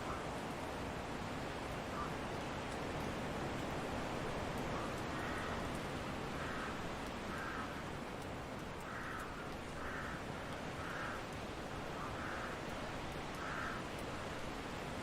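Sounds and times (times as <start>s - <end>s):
steady wind: 0.0s - 15.0s.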